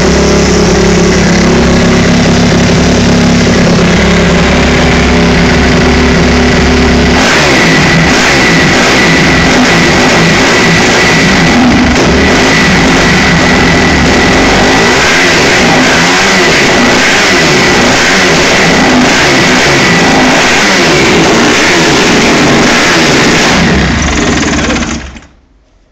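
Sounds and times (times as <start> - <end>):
dirt bike engine revving: 0.0 - 25.3.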